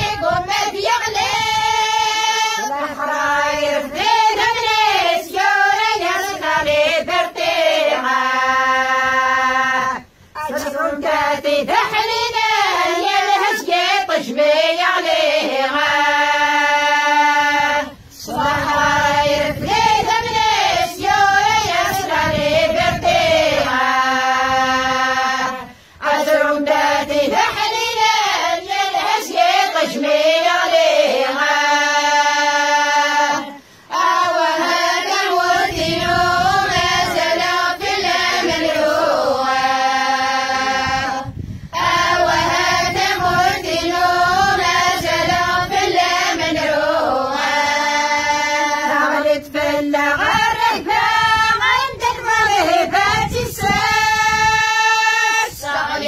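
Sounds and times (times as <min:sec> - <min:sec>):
women and girls singing in unison: 0:00.0 - 0:56.0.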